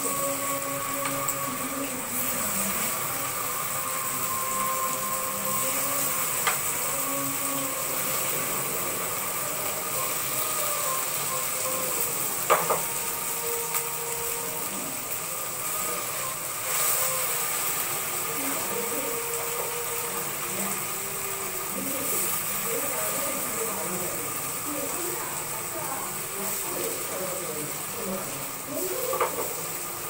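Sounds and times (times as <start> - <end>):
chicken sizzling in oil: 0.0 - 30.0
steady hum: 0.0 - 30.0.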